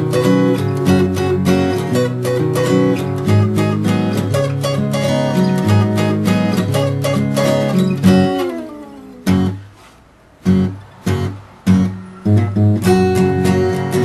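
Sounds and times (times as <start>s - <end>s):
strummed guitar: 0.0s - 14.0s.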